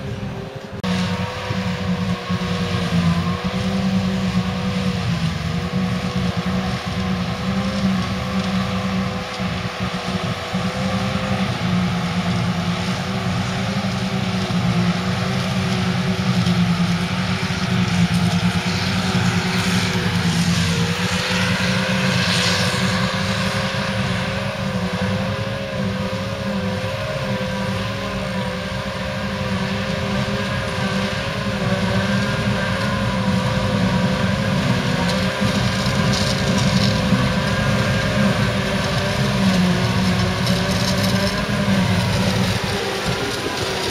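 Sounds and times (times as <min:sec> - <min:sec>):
constant machine whine: 0:00.0 - 0:43.9
diesel farm machinery running: 0:00.0 - 0:43.9.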